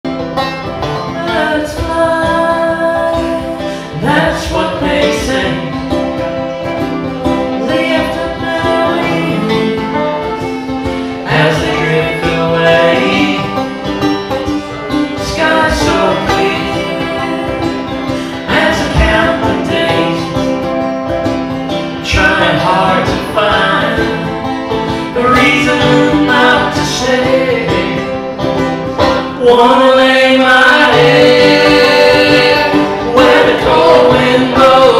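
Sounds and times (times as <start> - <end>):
band playing with plucked strings: 0.0 - 34.9
person singing: 0.9 - 6.3, 7.1 - 14.0, 14.7 - 20.8, 22.0 - 34.9.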